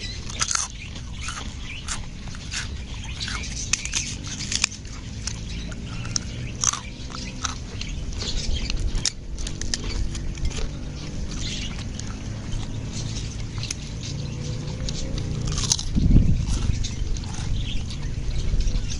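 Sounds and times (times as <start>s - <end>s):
birds chirping: 0.0s - 18.9s
low steady hum: 0.0s - 18.9s
person chewing and smacking: 0.0s - 18.9s.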